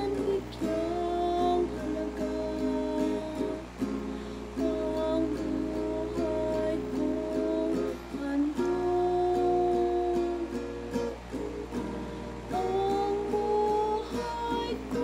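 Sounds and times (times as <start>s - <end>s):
acoustic guitar strumming: 0.0s - 15.0s
woman singing: 0.0s - 15.0s.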